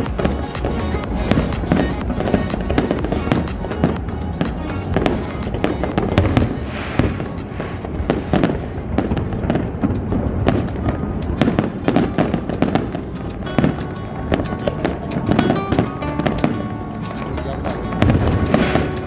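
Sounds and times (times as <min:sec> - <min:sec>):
fireworks bangs and crackling: 0:00.0 - 0:16.6.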